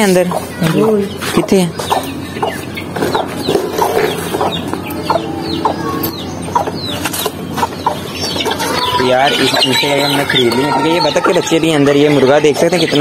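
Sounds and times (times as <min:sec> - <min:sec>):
chickens clucking: 0:00.0 - 0:13.0
chicks peeping: 0:00.0 - 0:13.0.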